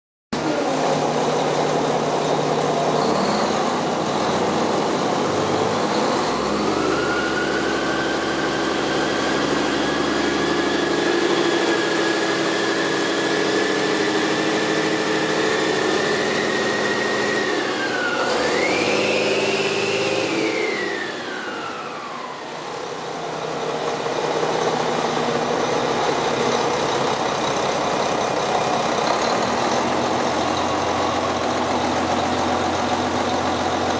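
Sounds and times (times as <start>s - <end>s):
diesel truck engine idling and revving: 0.4s - 33.9s.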